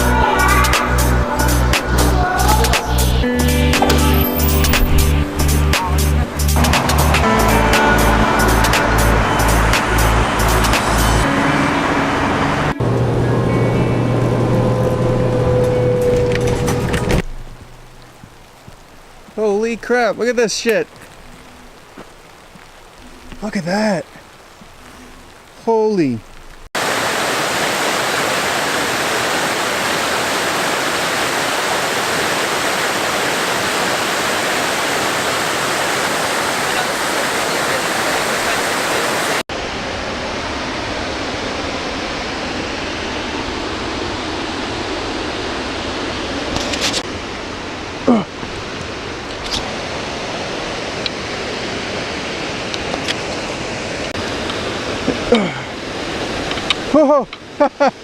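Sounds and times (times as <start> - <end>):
waterfall rushing: 0.0 - 16.0, 17.0 - 58.0.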